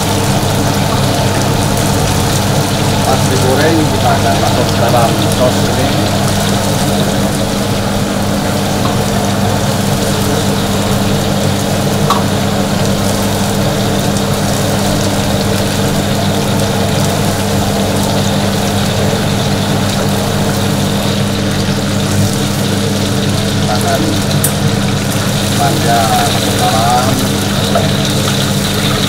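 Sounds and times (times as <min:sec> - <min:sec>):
kitchen equipment humming: 0:00.0 - 0:29.0.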